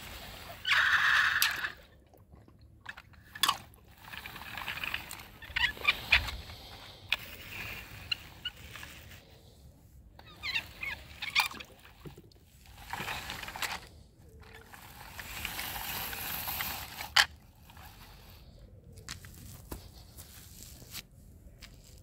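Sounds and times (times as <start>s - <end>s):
toy brushing over artificial turf: 0.0s - 1.8s, 3.3s - 22.0s.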